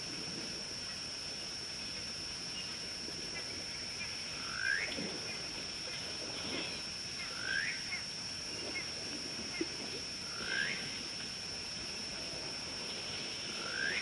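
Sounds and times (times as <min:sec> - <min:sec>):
steady high-pitched hum: 0:00.0 - 0:14.0.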